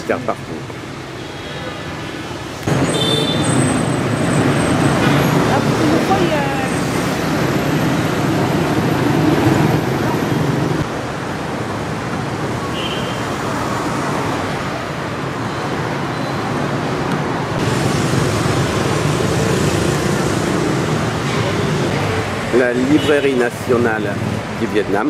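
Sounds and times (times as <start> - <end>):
street traffic of scooters and cars: 0.0 - 25.0.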